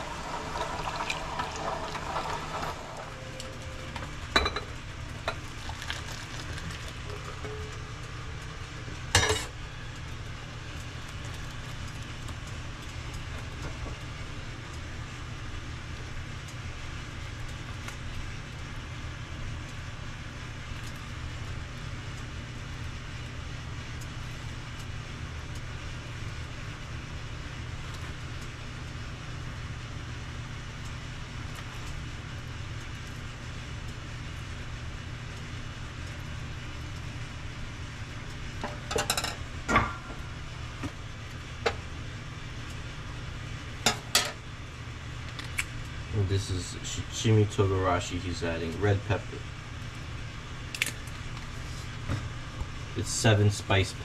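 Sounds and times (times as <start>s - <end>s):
low kitchen hum: 0.0s - 54.0s
pot boiling: 0.0s - 54.0s.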